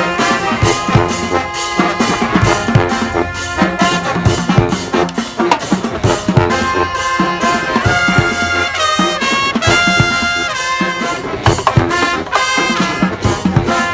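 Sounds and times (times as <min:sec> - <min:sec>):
steady drum beat: 0:00.0 - 0:13.9
trumpets and trombones: 0:00.0 - 0:13.9.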